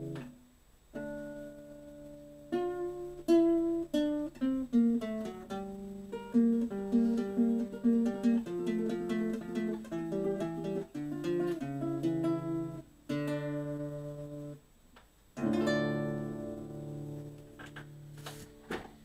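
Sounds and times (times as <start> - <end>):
solo classical guitar: 0.0 - 14.7, 15.3 - 19.0.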